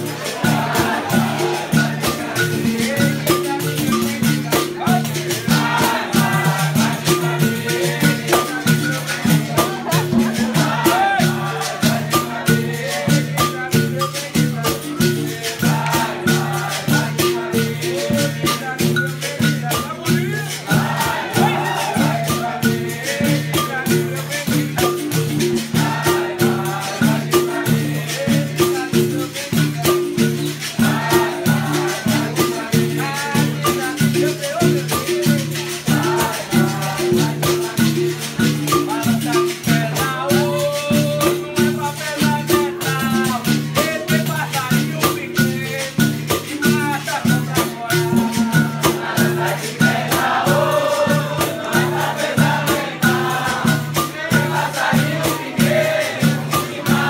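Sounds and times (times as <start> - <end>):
call-and-response singing: 0.0 - 57.0
hand drums: 0.0 - 57.0
rattles shaking: 0.0 - 57.0.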